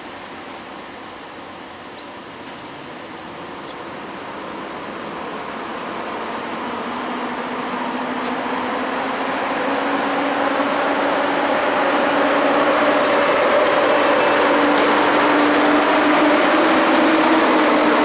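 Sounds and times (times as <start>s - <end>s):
electric locomotive motors humming: 0.0s - 18.0s.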